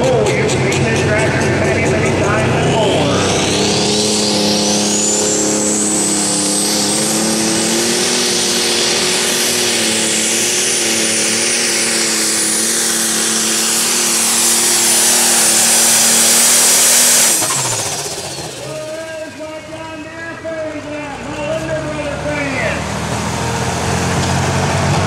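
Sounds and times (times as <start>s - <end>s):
diesel tractor engine at full load: 0.0s - 25.0s
high steady whine: 0.1s - 20.8s.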